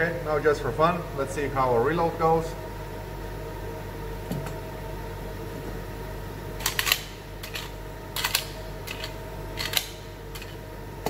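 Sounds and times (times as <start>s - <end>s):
fan-like hum: 0.0s - 11.0s.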